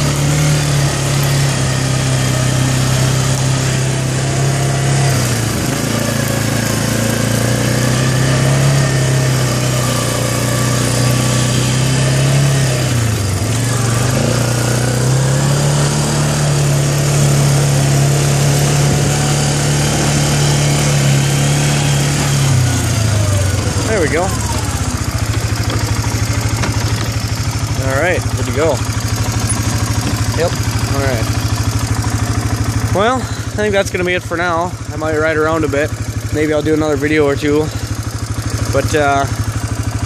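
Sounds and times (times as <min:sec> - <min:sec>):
atv engine running under load: 0:00.0 - 0:40.0.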